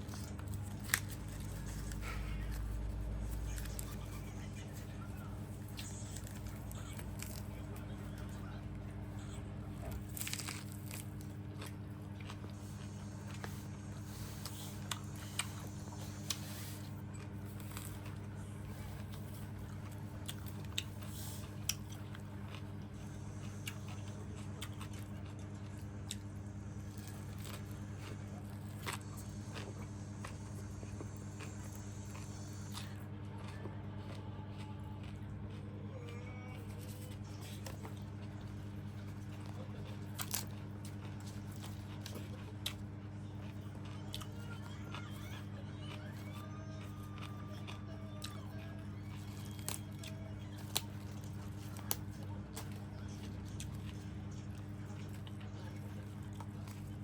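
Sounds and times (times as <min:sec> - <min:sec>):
person chewing and biting food: 0:00.0 - 0:57.0
steady low hum: 0:00.0 - 0:57.0.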